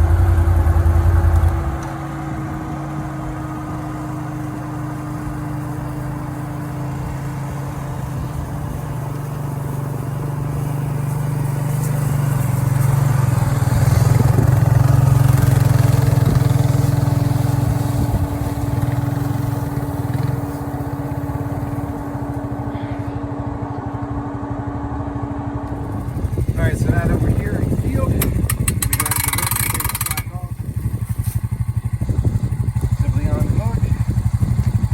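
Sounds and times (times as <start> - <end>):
atv engine running under load: 0.0 - 34.9.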